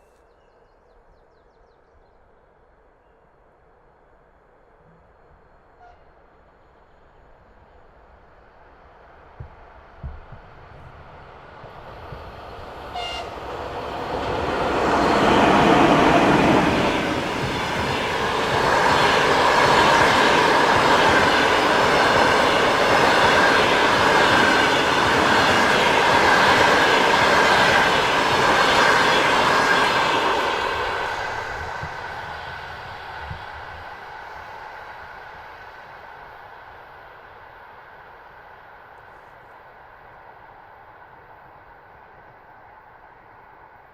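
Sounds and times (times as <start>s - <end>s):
passenger train passing: 5.8s - 43.9s.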